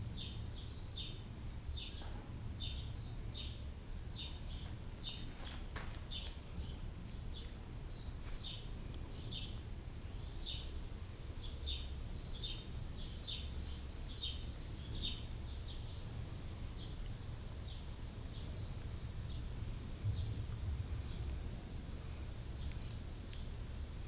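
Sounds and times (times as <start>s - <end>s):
small bird chirping: 0.1s - 21.8s.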